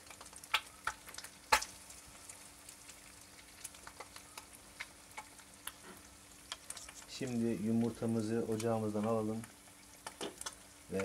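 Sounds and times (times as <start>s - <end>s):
eggs sizzling in a pan: 0.0s - 11.0s
sharp pops and crackles: 0.0s - 11.0s.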